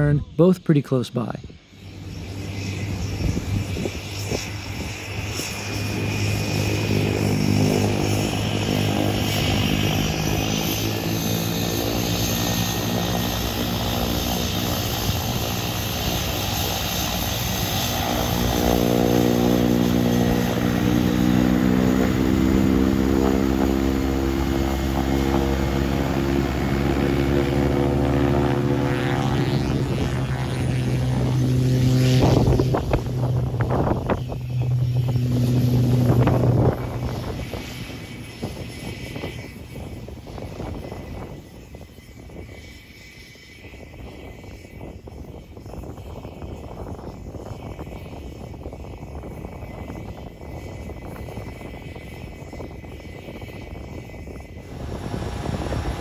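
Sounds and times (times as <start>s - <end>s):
turboprop engine and propeller: 0.0s - 56.0s.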